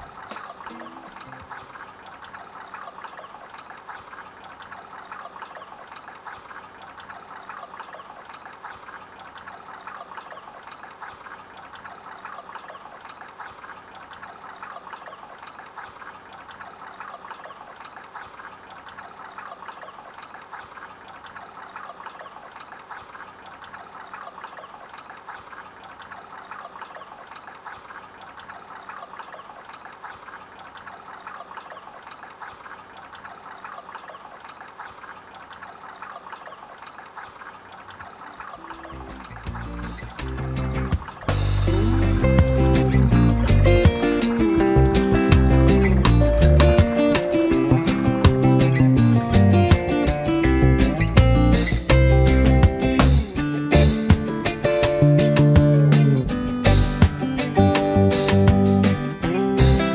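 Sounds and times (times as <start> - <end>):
fountain water trickling and splashing: 0.0 - 59.9.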